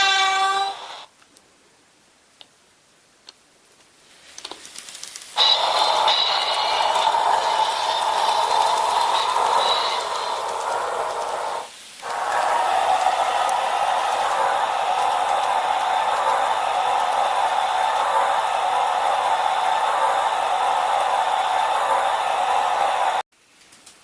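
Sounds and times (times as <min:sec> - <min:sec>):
recorded train running sound: 0:00.0 - 0:01.1, 0:05.0 - 0:23.3.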